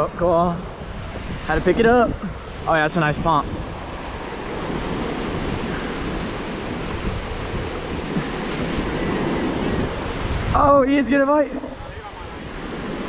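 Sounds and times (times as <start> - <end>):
ocean surf breaking on beach: 0.0 - 13.0
wind on microphone: 0.0 - 13.0.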